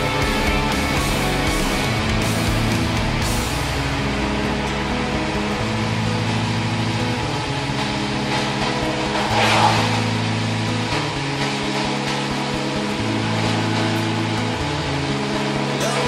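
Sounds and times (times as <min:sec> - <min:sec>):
tyres on wet road: 0:00.0 - 0:16.0.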